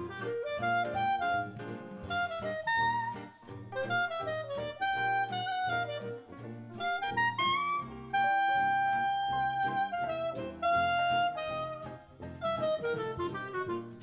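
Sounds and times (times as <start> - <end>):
bass line: 0.0 - 14.0
jazz horn melody: 0.0 - 14.0.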